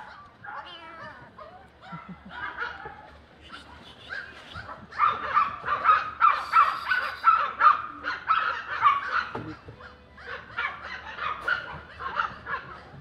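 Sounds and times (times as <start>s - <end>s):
puppy yapping: 0.0s - 13.0s.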